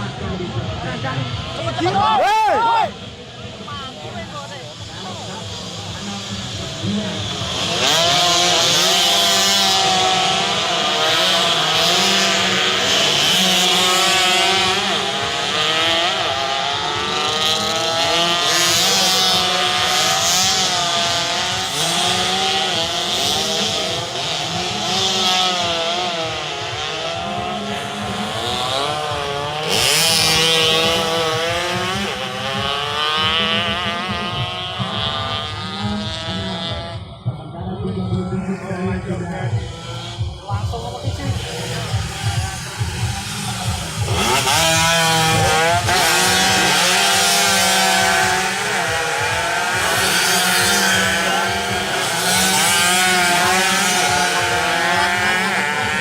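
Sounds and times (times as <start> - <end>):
racing motorcycle engines revving: 0.0 - 56.0.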